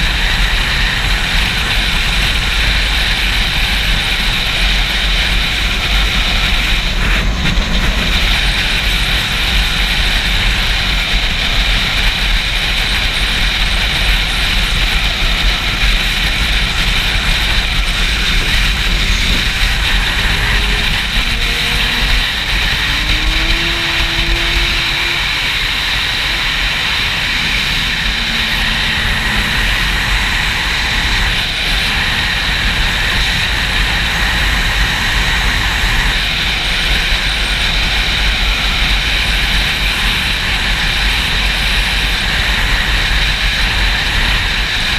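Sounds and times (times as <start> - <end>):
faint motorcycle engine: 0.0 - 44.9
wind buffeting microphone: 0.0 - 44.9.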